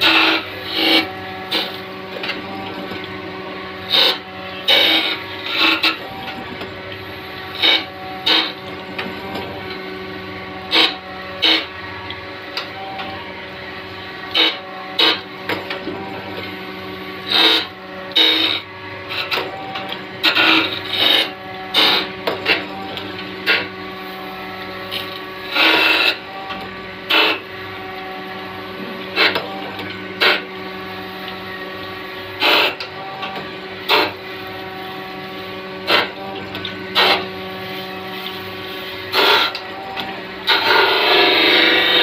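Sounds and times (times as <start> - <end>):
machine motor hum: 0.0 - 42.0.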